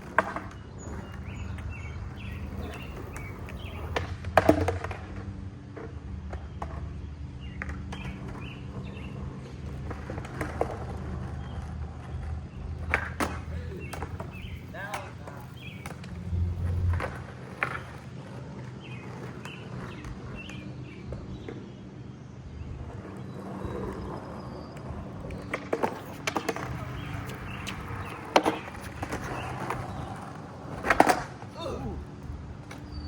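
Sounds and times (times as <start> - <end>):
skateboard clacks: 0.0 - 33.0
skateboard wheels rolling: 0.0 - 33.0.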